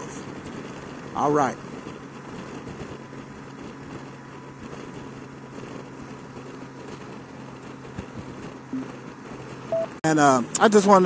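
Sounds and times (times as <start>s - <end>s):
motorcycle engine humming: 0.0s - 11.0s
road and wind noise: 0.0s - 11.0s.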